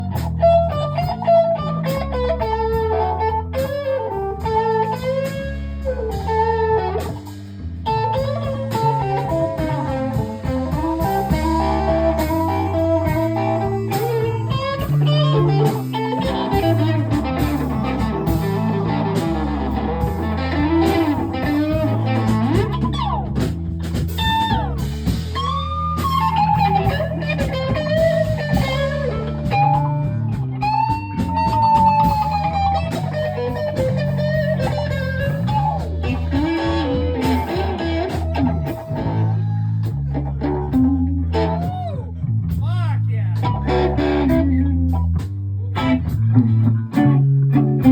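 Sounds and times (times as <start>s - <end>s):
electric guitar lead with bends: 0.0s - 42.6s, 43.4s - 47.9s
steady beat: 0.0s - 47.9s.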